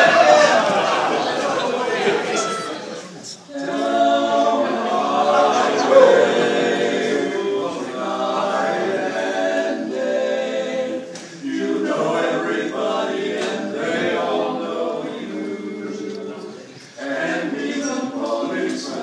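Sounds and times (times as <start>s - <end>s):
men singing barbershop harmony: 3.5s - 19.0s.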